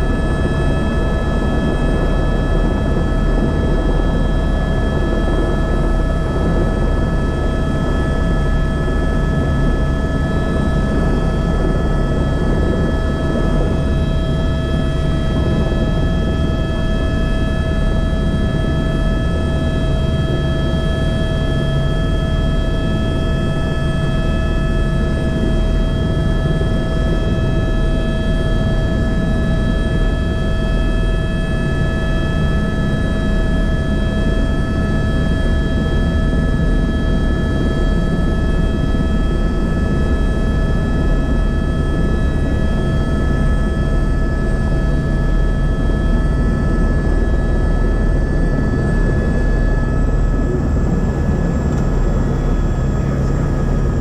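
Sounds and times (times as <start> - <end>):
helicopter rotor rumble: 0.0 - 54.0
high-pitched whine: 0.0 - 54.0.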